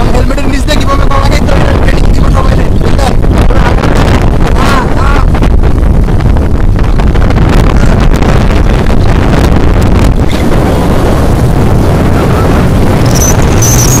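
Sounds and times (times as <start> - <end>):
motorcycle ride rumble: 0.0 - 14.0
wind buffeting microphone: 0.0 - 14.0.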